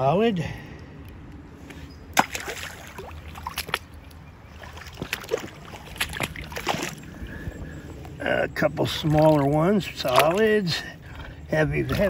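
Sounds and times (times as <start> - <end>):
water sloshing: 1.7 - 12.0.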